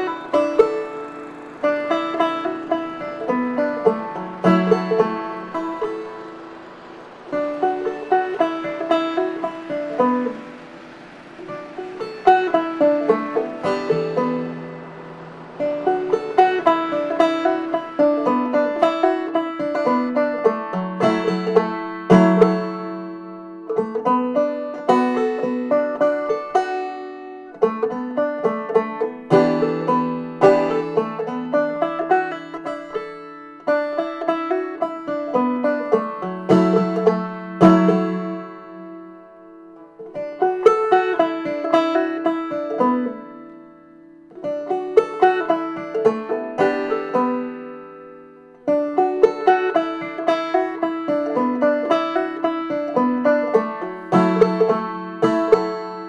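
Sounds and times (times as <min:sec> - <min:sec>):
banjo picking: 0:00.0 - 0:56.0.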